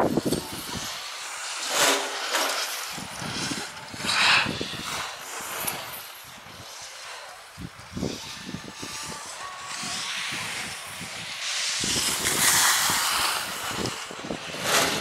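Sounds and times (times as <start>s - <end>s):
skis scraping on snow: 0.0s - 15.0s.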